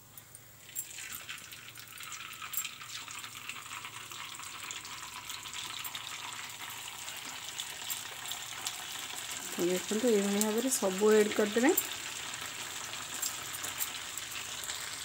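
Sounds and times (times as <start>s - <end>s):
dough sizzling in hot oil: 0.6s - 15.0s.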